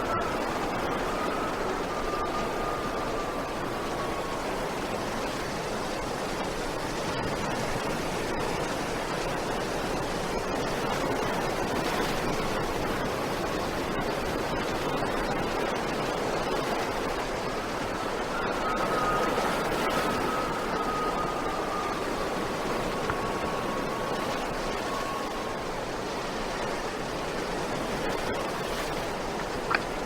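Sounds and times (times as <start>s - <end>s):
wind rushing through vegetation: 0.0s - 30.0s.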